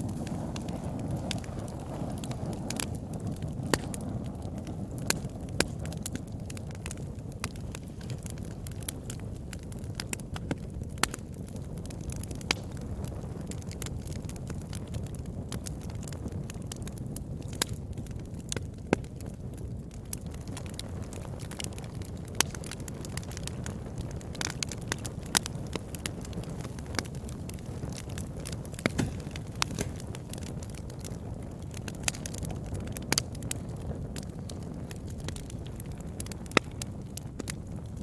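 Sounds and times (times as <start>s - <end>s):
campfire crackling: 0.0s - 38.0s.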